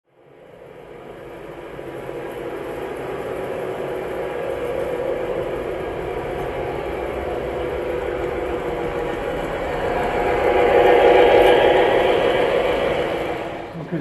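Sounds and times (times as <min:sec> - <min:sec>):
model train running: 0:00.1 - 0:14.0.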